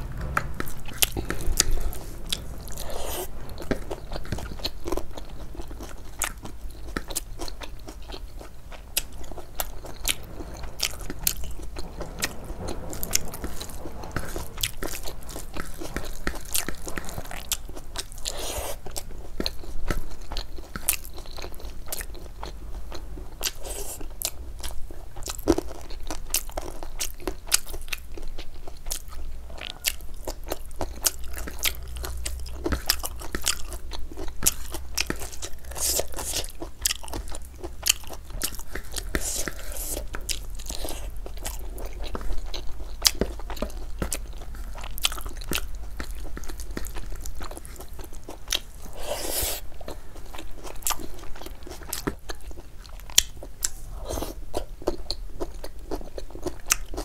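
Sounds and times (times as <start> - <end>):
person chewing crunchy food: 0.8 - 11.9, 14.5 - 57.0.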